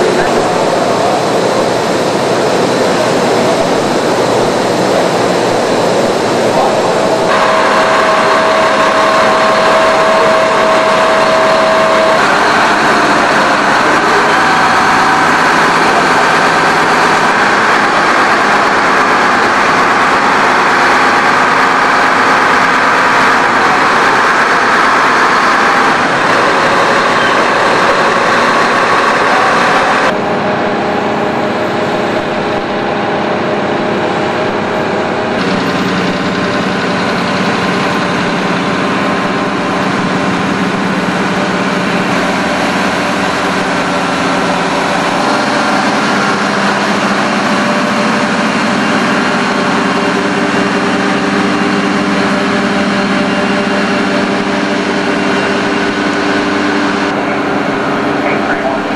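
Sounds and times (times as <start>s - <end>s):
forklift engine humming: 0.0s - 58.9s.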